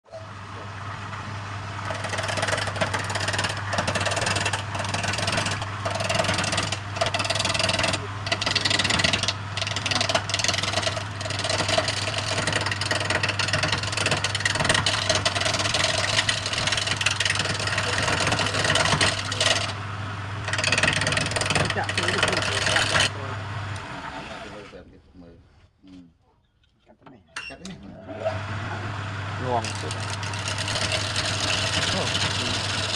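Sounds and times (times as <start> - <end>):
lathe motor hum: 0.1 - 24.8, 27.9 - 32.9
turning tool scraping wood: 0.6 - 24.8, 28.0 - 32.9.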